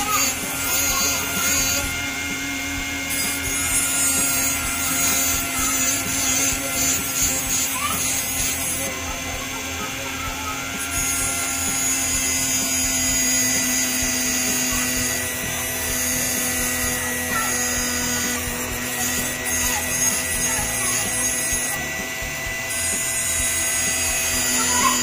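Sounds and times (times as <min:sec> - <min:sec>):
rotary tool grinding metal: 0:00.0 - 0:25.0.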